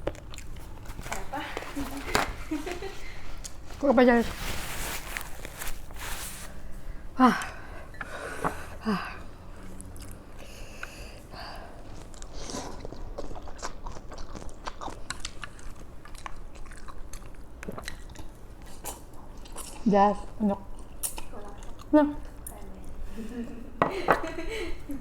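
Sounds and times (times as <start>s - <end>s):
close-miked chewing of food: 0.0s - 2.1s, 2.7s - 4.1s, 5.2s - 23.1s.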